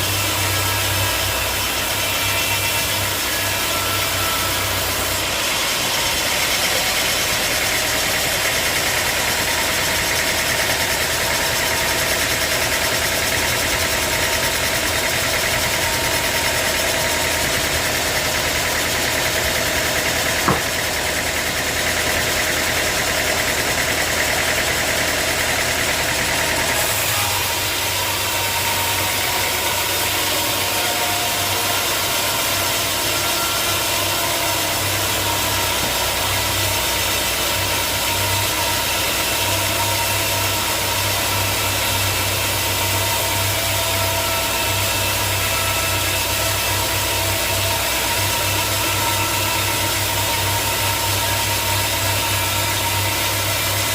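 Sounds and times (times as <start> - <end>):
sawmill machinery droning: 0.0 - 53.9.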